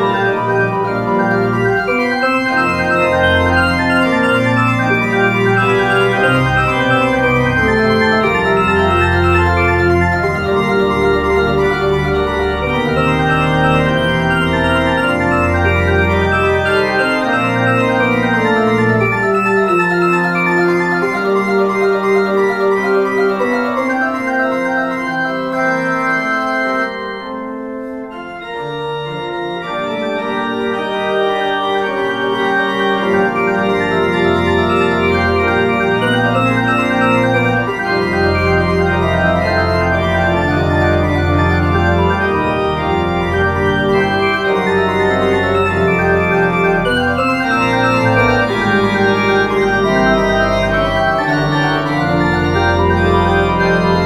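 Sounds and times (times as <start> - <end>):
deep organ bass notes: 0.0 - 54.0
organ chords: 0.0 - 54.0.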